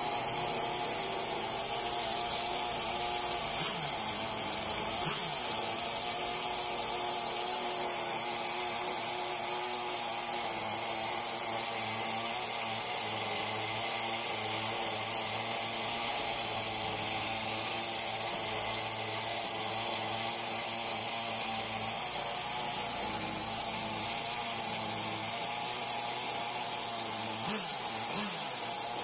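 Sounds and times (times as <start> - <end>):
small nitro engine idling: 0.0 - 29.0.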